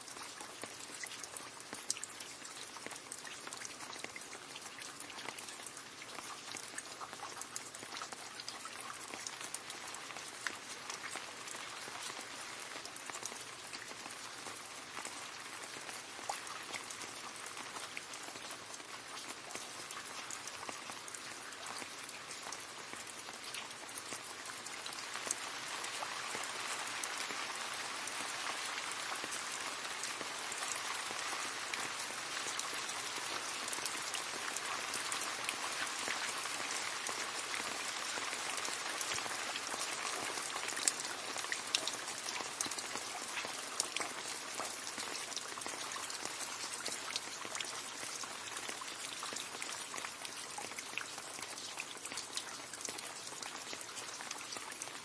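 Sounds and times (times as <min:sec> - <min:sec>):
rain falling into a puddle: 0:00.0 - 0:55.0.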